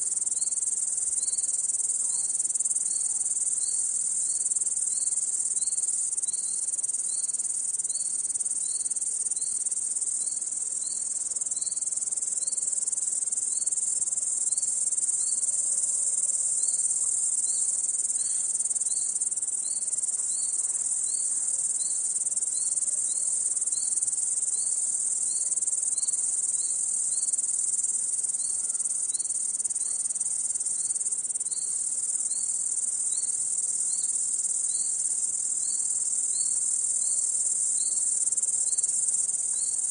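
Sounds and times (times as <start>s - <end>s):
crickets trilling: 0.0s - 39.9s
nearby insect chirping: 0.0s - 39.9s.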